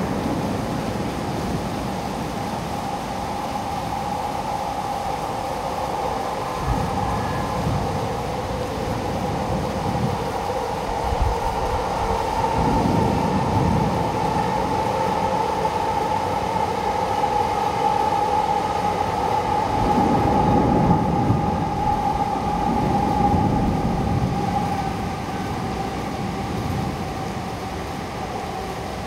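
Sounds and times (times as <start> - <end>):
heavy rain hissing: 0.0 - 29.0.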